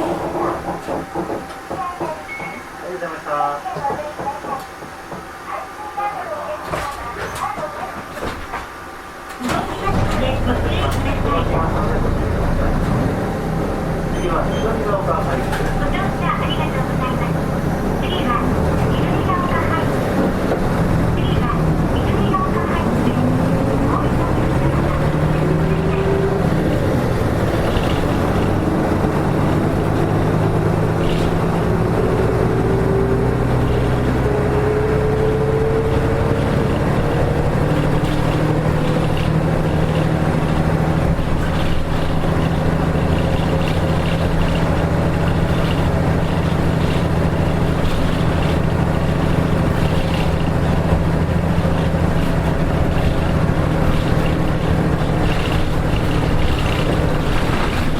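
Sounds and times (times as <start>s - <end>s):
bus diesel engine droning: 0.0s - 57.9s
drivetrain whine: 9.3s - 57.9s.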